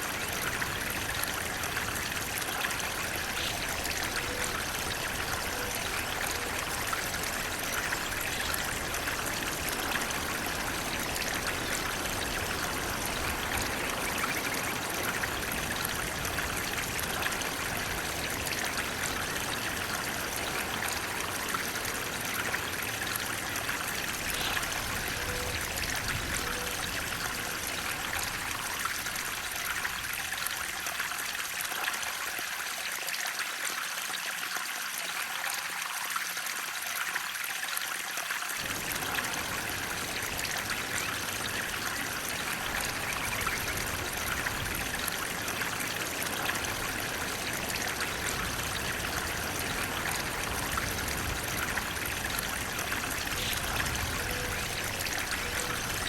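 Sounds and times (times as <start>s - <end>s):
flowing water rushing: 0.0s - 56.0s
water trickling: 0.0s - 56.0s.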